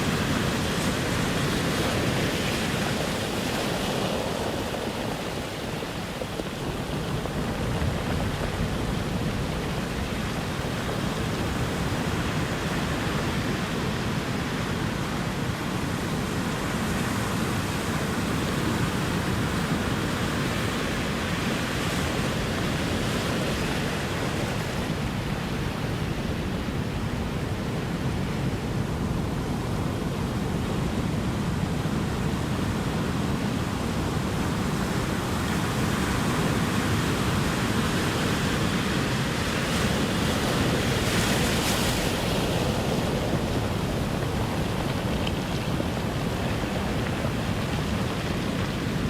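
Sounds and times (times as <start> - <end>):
ocean surf washing ashore: 0.0 - 49.0.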